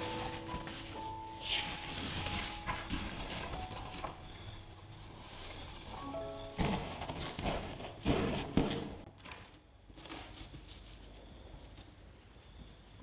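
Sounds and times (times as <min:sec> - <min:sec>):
paper crinkling: 0:00.0 - 0:13.0.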